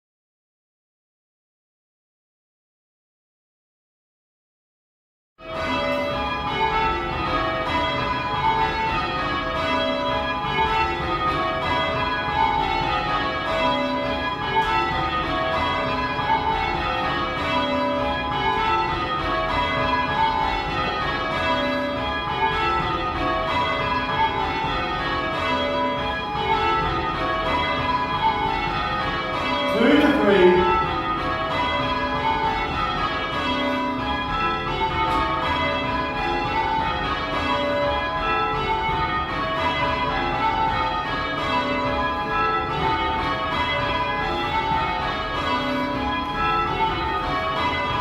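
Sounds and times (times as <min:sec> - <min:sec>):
church bells ringing in rounds: 0:05.4 - 0:48.0.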